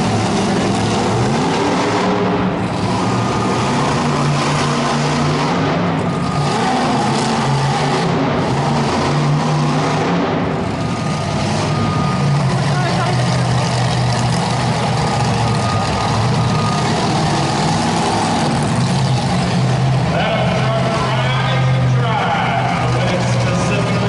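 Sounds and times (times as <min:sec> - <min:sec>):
arena noise: 0:00.0 - 0:24.0
monster truck engine revving: 0:00.0 - 0:24.0.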